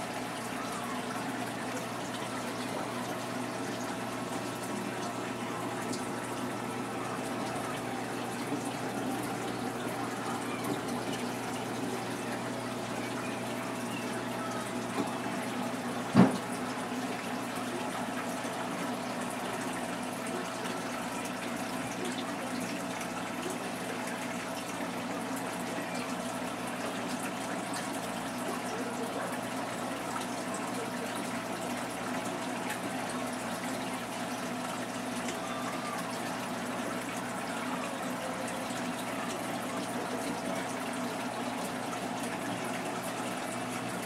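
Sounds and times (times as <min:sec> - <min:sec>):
low pump hum: 0:00.0 - 0:44.0
water splashing and trickling: 0:00.0 - 0:44.0.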